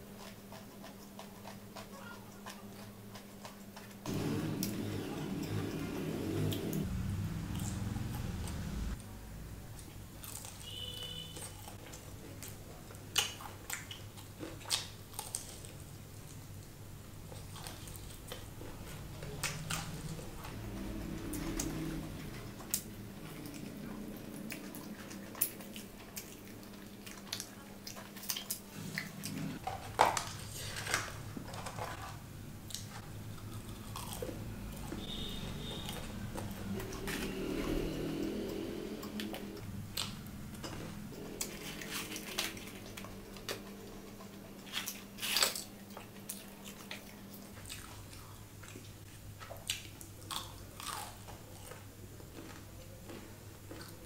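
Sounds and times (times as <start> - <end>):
crunchy chewing of fried chicken: 0.0 - 5.6, 9.8 - 32.0, 32.6 - 54.0.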